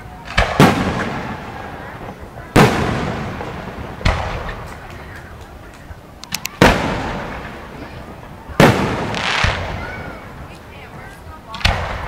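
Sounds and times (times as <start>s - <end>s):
rolling echo: 0.0s - 12.0s
firework shells booming: 0.2s - 12.0s.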